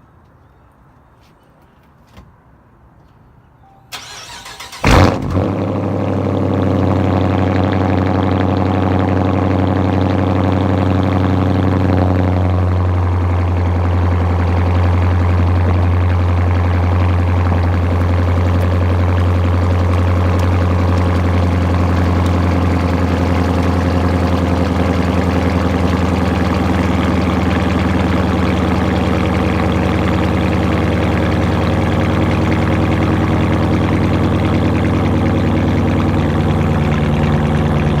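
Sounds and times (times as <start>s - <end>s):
car engine idling: 3.9s - 38.0s.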